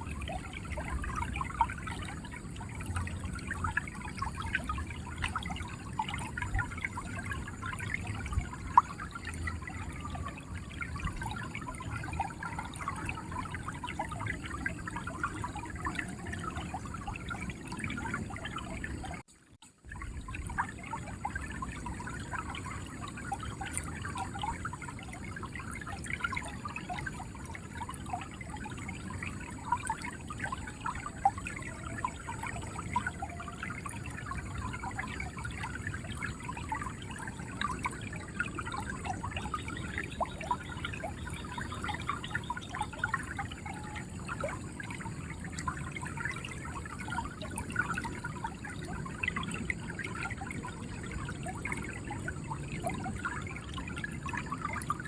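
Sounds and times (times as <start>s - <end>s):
river water gurgling: 0.0s - 55.0s.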